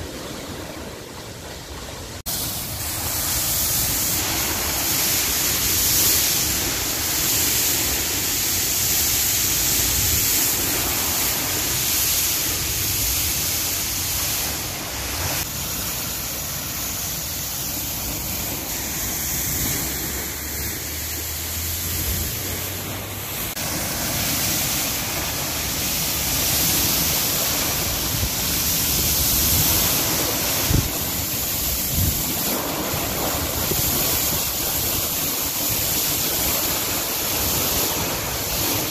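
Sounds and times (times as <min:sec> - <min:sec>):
water rushing down spillway: 0:00.0 - 0:38.9.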